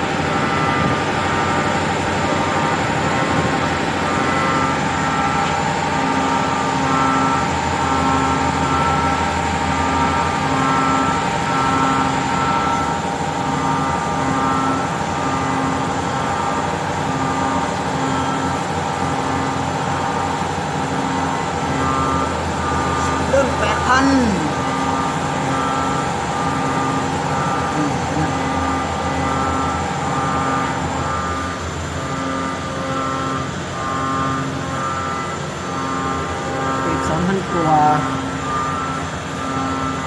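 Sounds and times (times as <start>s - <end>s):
machine spindle high whine: 0.0s - 40.0s
pulsing machine tone: 0.0s - 40.0s.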